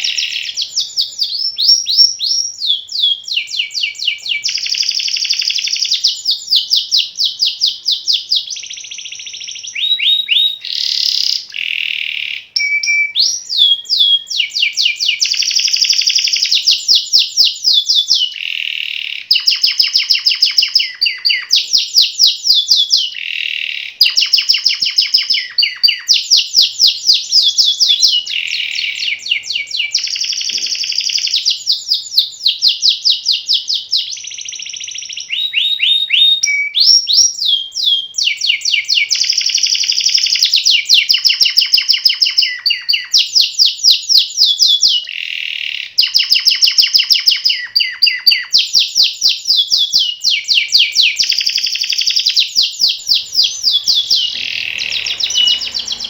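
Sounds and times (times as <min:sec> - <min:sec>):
canary singing rolling tours: 0:00.0 - 0:56.0.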